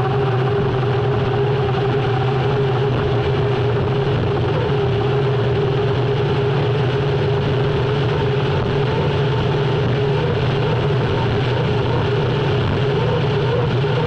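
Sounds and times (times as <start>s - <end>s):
turbine engine drone: 0.0s - 14.0s.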